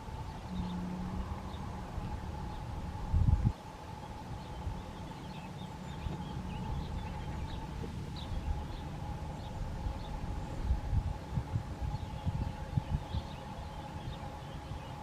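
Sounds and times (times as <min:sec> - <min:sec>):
low rumbling background: 0:00.0 - 0:15.0.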